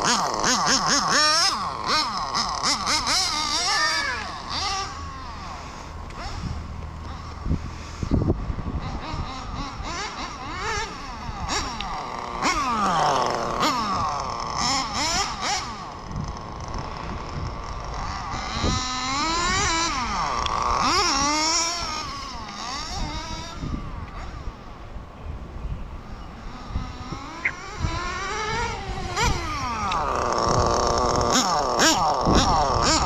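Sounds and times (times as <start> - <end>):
rc car nitro engine revving: 0.0 - 24.8, 26.1 - 33.0.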